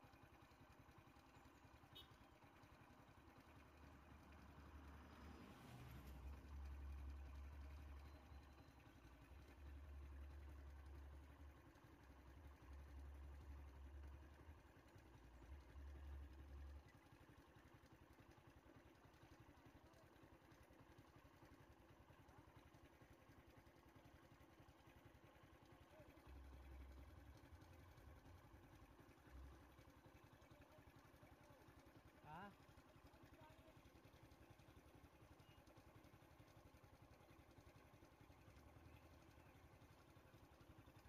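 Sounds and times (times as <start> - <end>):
faint idling vehicle engine: 0.0 - 41.0.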